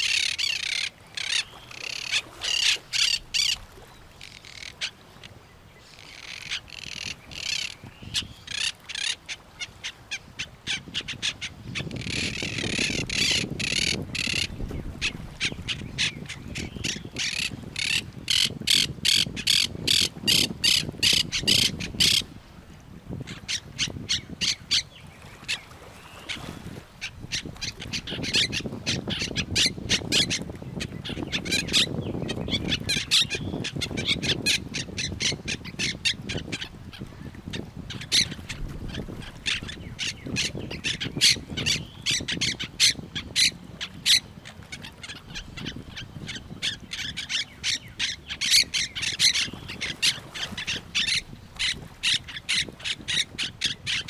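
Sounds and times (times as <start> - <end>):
birds squawking and chirping: 0.0 - 22.2, 23.3 - 54.0.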